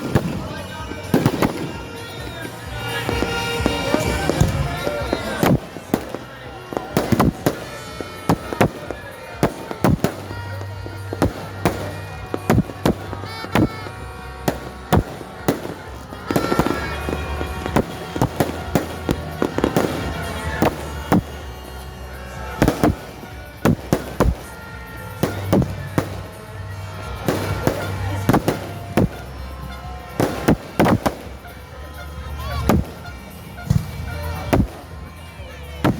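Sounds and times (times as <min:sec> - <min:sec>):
fireworks bangs: 0:00.0 - 0:35.9
music: 0:00.0 - 0:35.9
voices: 0:00.0 - 0:35.9.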